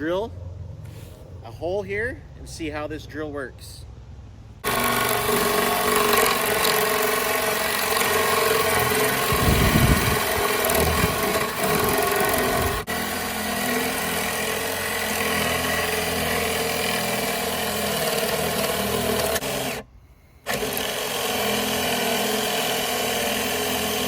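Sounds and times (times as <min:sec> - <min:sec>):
electric drill boring: 0:04.6 - 0:24.0.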